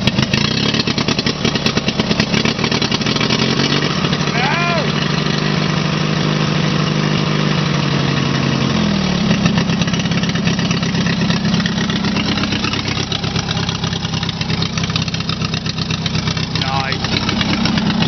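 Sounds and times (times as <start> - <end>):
riding mower engine open exhaust: 0.0 - 18.0.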